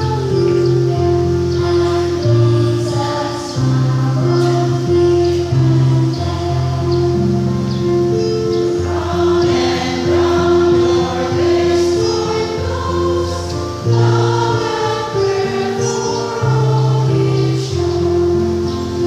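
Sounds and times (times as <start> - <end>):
choir singing in parts: 0.0 - 19.0
instrumental accompaniment: 0.0 - 19.0.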